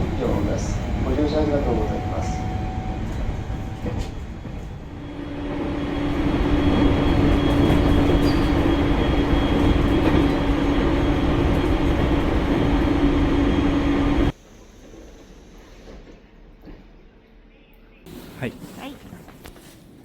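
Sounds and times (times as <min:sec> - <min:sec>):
train wheels rumbling on track: 0:00.0 - 0:16.9.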